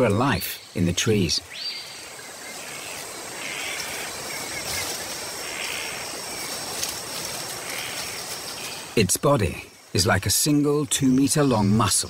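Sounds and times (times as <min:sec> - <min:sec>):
rainforest hiss: 0:00.0 - 0:12.0.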